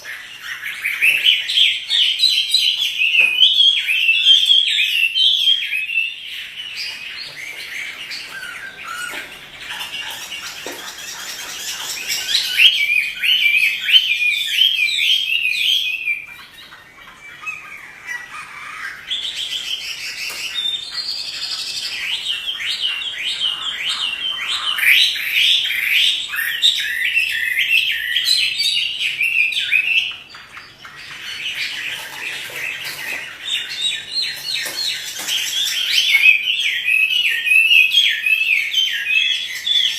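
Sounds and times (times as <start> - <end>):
bird singing rapid varied phrases: 0.0 - 39.9.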